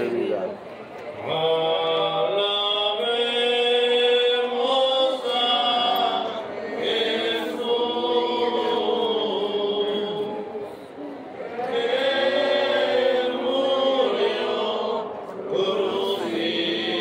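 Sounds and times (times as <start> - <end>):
person singing a slow religious chant: 1.2 - 17.0.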